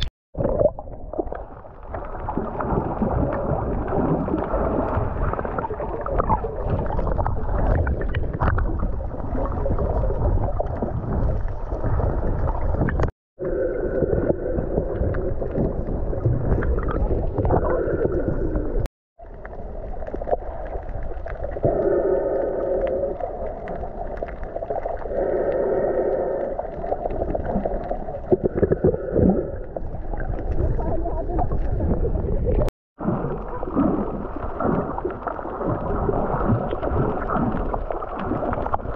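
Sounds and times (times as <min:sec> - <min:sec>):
water gurgling underwater: 0:00.0 - 0:38.9.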